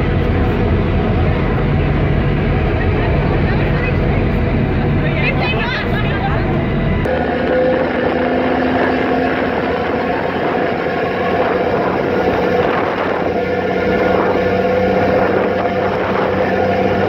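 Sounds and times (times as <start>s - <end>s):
churning water: 0.0s - 17.0s
ferry engines humming: 0.0s - 17.0s
wind: 0.0s - 17.0s.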